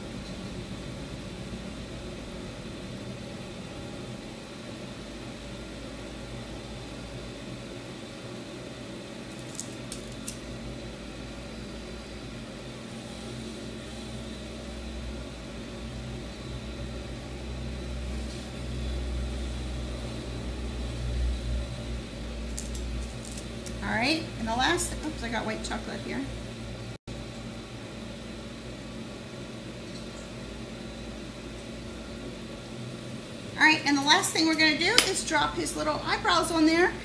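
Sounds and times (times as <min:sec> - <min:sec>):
background hum with high whine: 0:00.0 - 0:37.0.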